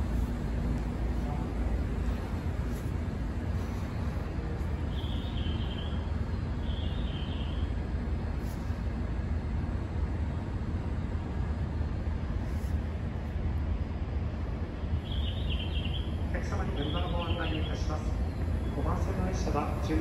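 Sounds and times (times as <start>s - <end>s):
railway station rumble: 0.0s - 20.0s.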